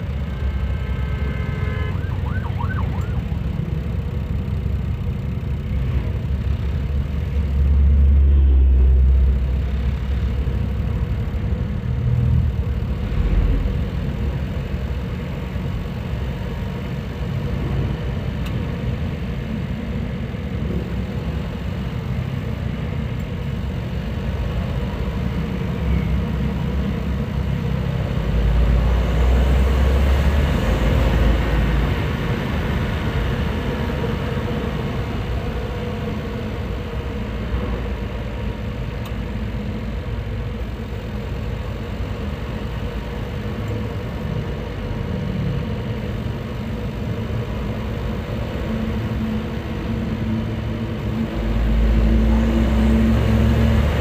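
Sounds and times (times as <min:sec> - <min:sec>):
car engine running under load: 0:00.0 - 0:54.0.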